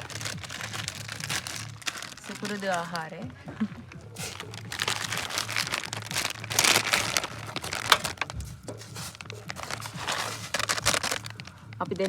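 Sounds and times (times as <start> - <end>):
plastic packaging crinkling: 0.0 - 3.2, 4.0 - 12.0.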